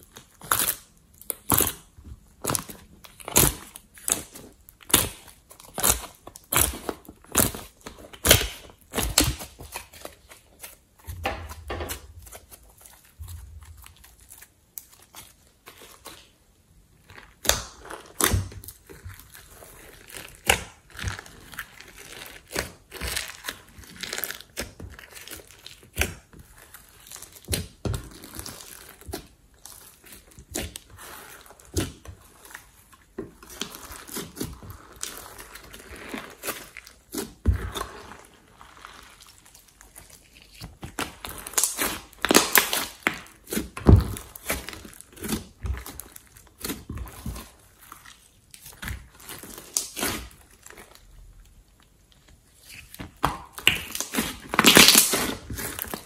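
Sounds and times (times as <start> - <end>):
slime popping and crackling: 0.0 - 56.0.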